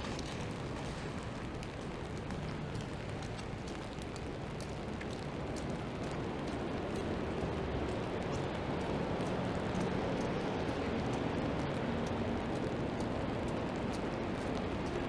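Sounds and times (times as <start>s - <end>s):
steady rain: 0.0s - 15.0s
traffic on wet street: 0.0s - 15.0s.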